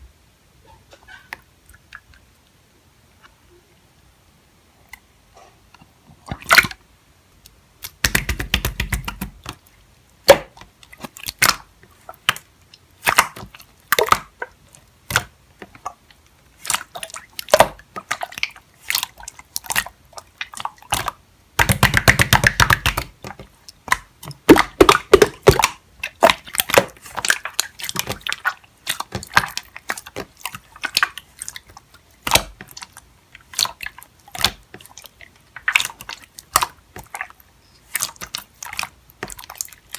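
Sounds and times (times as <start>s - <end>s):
slime squishing and popping: 6.3s - 6.8s, 7.8s - 39.9s.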